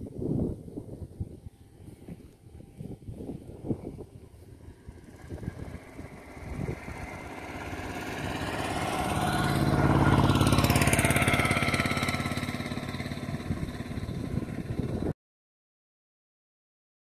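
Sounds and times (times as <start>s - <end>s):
vehicle engine passing by: 1.4s - 15.2s.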